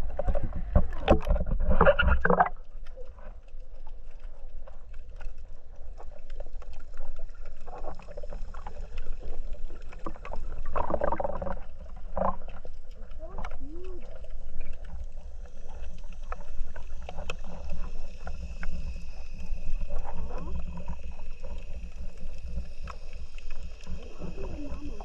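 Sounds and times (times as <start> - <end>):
water splashing and bubbling: 0.0 - 25.0.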